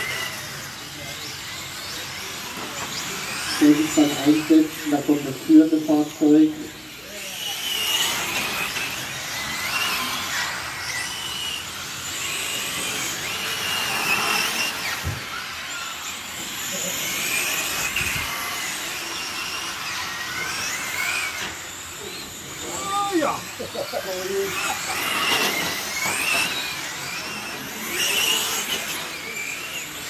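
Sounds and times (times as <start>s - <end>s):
rc car motors whining: 0.0s - 30.0s.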